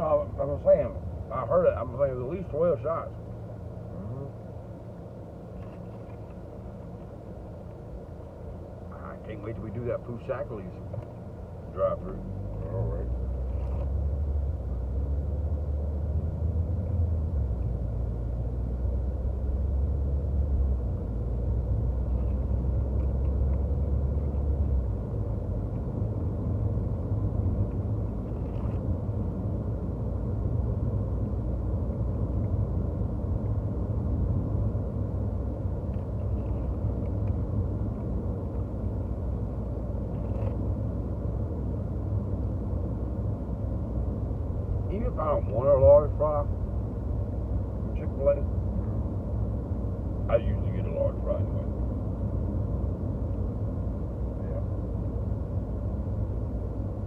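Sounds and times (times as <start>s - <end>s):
car engine rumble in cabin: 0.0s - 57.0s.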